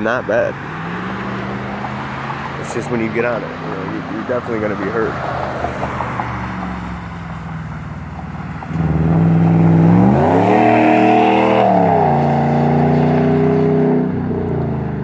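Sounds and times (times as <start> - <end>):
loud engine exhaust revving: 0.0 - 15.0.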